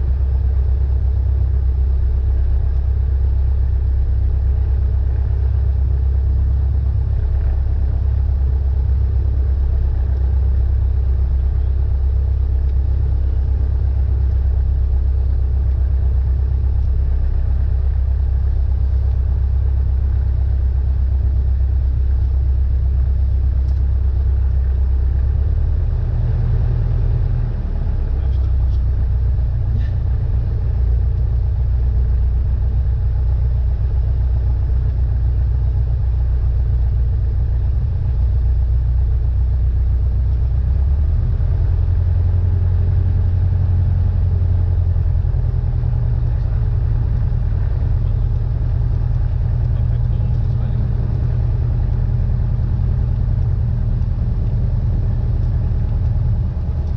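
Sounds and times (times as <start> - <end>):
propeller plane engine droning: 0.0 - 56.9.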